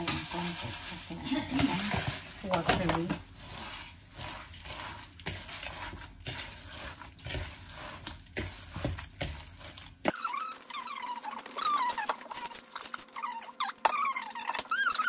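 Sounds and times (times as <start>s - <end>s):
hands squelching food mixture: 0.0s - 15.0s.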